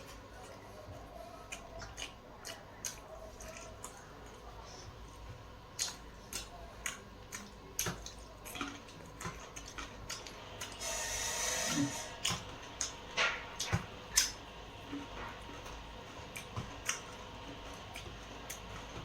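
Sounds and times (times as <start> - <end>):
wet chewing clicks and smacks: 0.4 - 10.8, 13.6 - 19.0.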